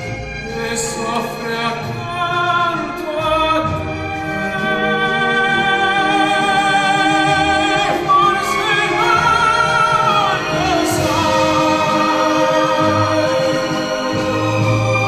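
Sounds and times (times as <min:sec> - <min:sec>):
musical accompaniment: 0:00.0 - 0:15.0
operatic singing with vibrato: 0:00.0 - 0:15.0.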